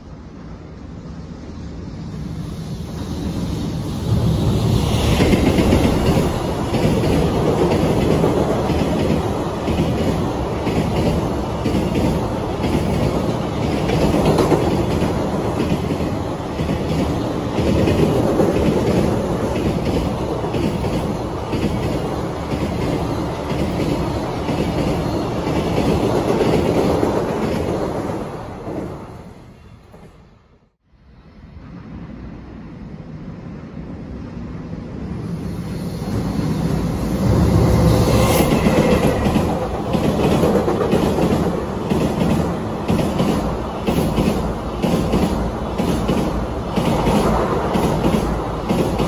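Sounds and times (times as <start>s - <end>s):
freight train rumbling on bridge: 0.0s - 49.0s.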